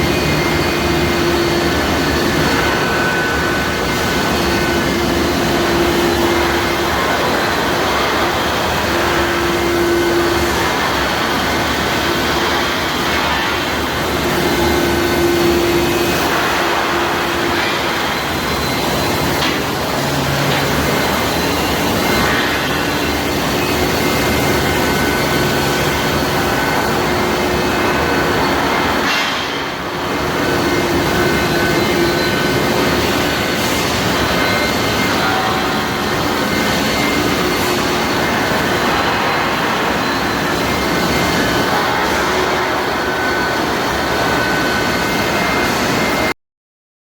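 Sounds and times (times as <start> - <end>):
industrial machinery rush: 0.0 - 46.3.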